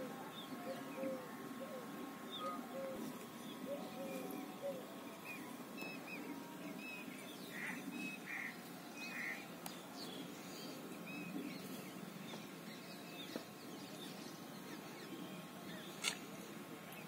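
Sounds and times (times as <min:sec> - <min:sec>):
faint outdoor background: 0:00.0 - 0:17.0
small birds chirping: 0:00.0 - 0:17.0.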